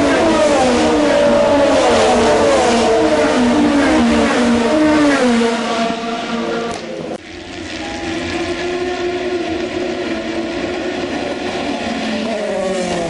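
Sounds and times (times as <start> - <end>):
racing car engines shifting gears: 0.0 - 13.0.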